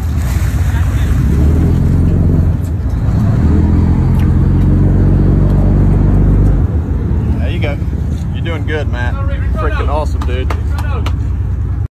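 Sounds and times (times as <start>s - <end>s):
boat engine running: 0.0s - 11.9s.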